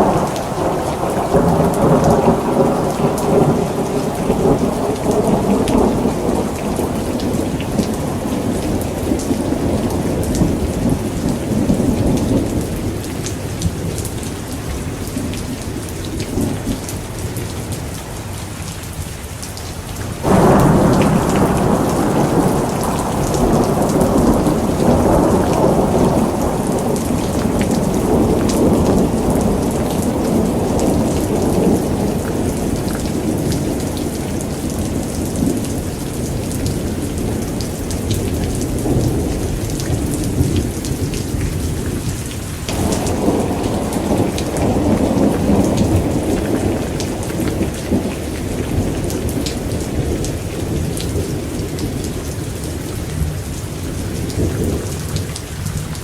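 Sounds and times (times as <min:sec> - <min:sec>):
thunder rumbling: 0:00.0 - 0:14.1, 0:20.2 - 0:56.0
heavy rain: 0:00.0 - 0:56.0.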